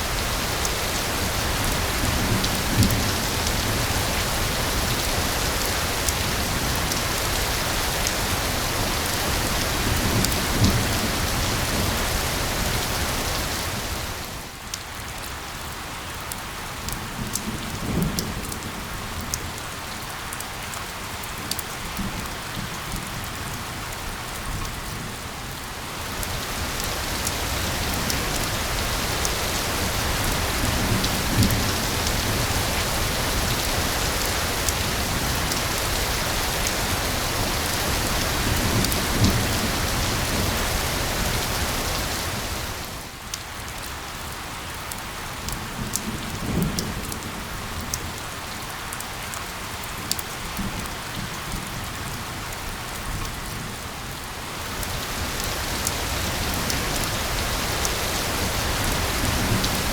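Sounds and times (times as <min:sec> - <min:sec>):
heavy rain hissing and pattering: 0:00.0 - 0:59.9.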